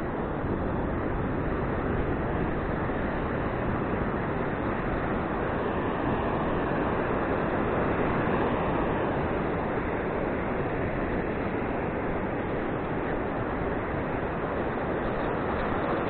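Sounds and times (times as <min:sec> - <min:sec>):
ocean surf: 0:00.0 - 0:16.0
wind: 0:00.0 - 0:16.0.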